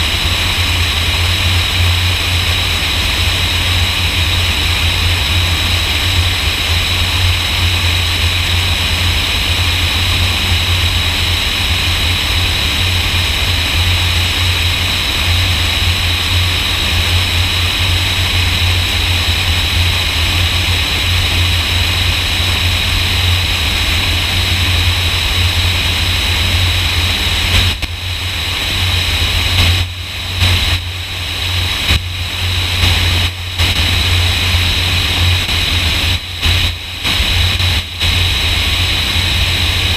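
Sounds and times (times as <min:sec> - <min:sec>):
light airplane engine drone: 0:00.0 - 0:39.9
rush of wind: 0:00.0 - 0:39.9.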